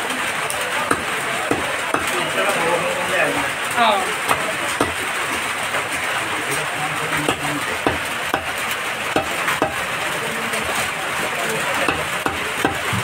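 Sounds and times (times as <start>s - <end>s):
faint voices: 0.0s - 13.0s
market background noise: 0.0s - 13.0s.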